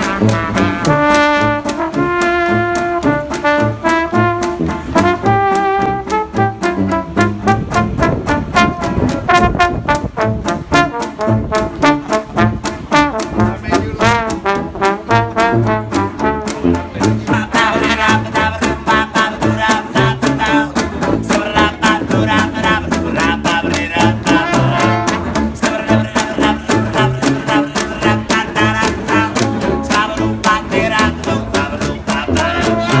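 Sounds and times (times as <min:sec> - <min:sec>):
instrumental music with fast beat: 0:00.0 - 0:33.0.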